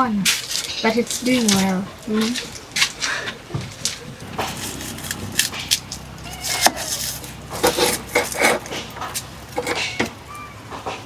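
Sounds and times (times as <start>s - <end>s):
wood or utensils clattering: 0.2s - 10.2s.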